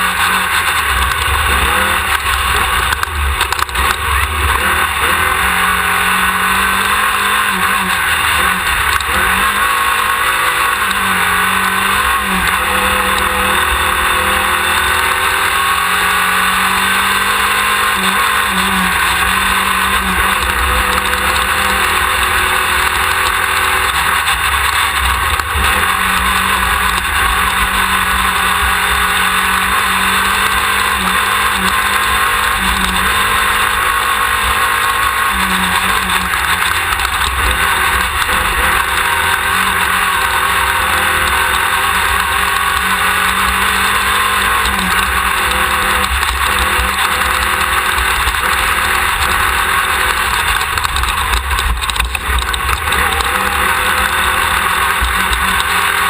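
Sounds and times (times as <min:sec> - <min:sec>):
race car engine running: 0:00.0 - 0:56.0.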